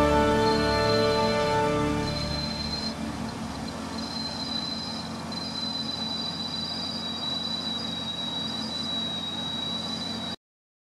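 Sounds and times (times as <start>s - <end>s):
high whine: 0.0s - 10.2s
helicopter engine and rotor drone: 0.0s - 10.4s.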